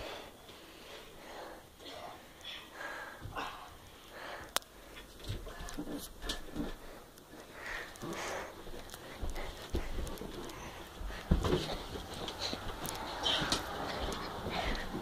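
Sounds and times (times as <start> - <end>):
boys breathing hard: 0.0 - 15.0.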